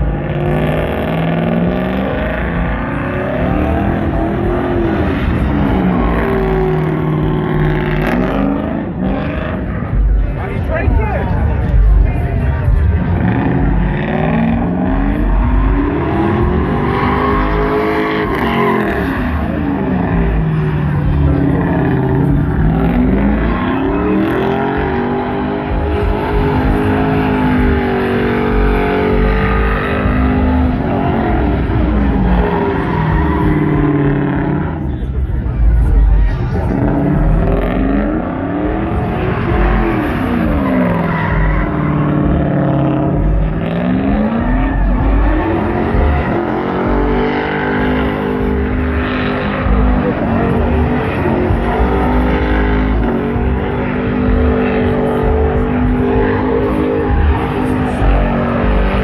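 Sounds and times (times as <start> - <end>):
pickup truck engine revving: 0.0 - 10.7, 11.3 - 59.0
steady rush of noise: 0.0 - 59.0.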